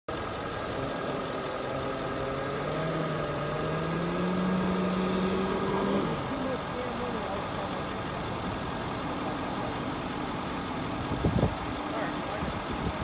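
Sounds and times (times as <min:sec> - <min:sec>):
diesel truck engine revving: 0:00.1 - 0:13.0.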